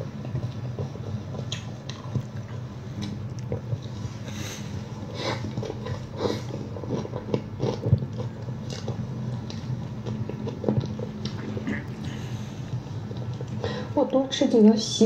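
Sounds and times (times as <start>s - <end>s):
person chewing pastry: 0.0s - 14.0s
low steady hum: 0.0s - 15.0s.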